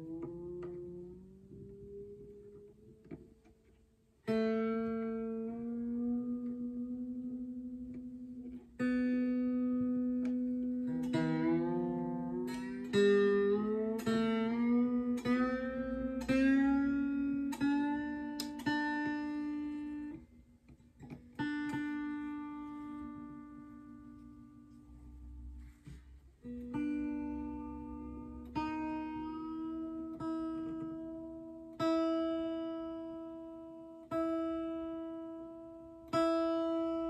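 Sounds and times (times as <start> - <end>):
guitar string plucked: 0.0 - 37.0.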